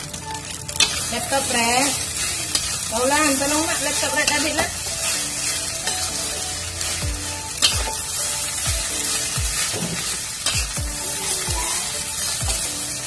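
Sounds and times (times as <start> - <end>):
food sizzling: 0.0 - 13.0
metal spatula scraping wok: 0.0 - 13.0.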